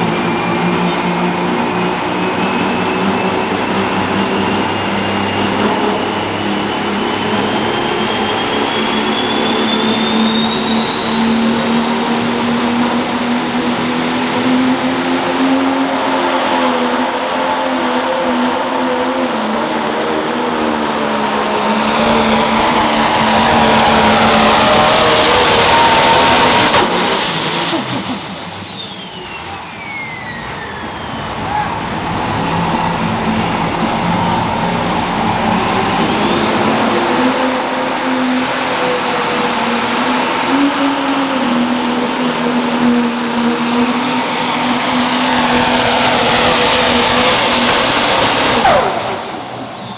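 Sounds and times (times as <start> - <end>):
diesel tractor engine at full power: 0.0 - 49.9
turbo whine: 0.0 - 49.9.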